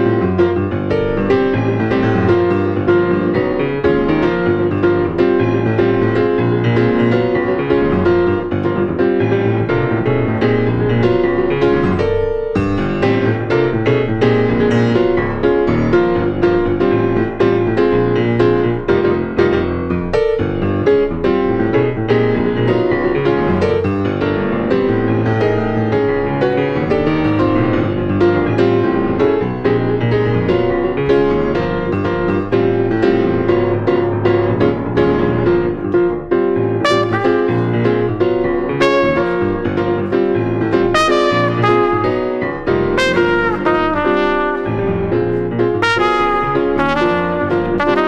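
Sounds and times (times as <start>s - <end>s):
grand piano playing: 0.0s - 48.0s.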